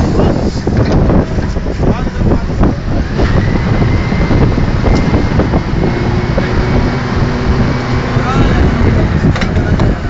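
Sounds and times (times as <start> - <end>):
heavy machinery rumble: 0.0 - 10.0
wind buffeting microphone: 0.0 - 10.0.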